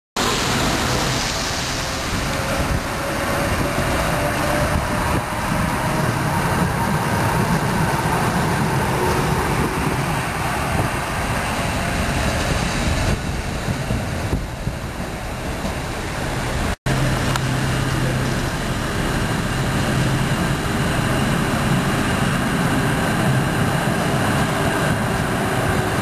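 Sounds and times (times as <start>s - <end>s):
tram wheels rumbling on rails: 0.2s - 26.0s.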